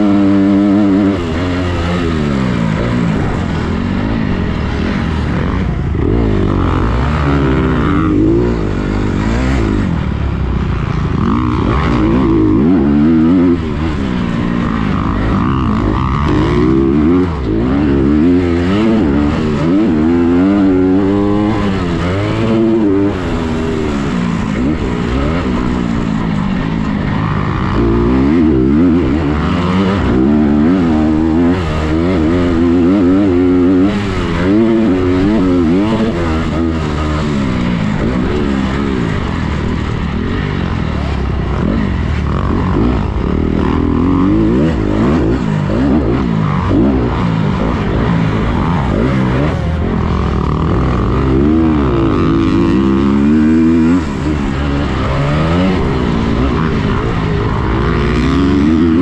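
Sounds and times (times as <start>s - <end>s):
dirt bike engine racing: 0.0s - 59.0s.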